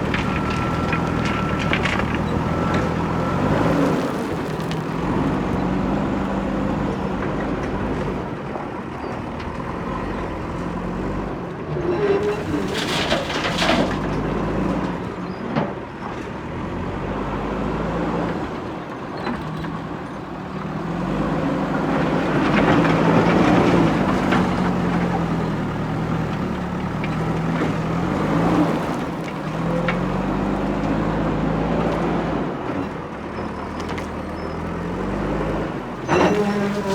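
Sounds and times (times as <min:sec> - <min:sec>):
diesel backhoe engine revving: 0:00.0 - 0:36.9.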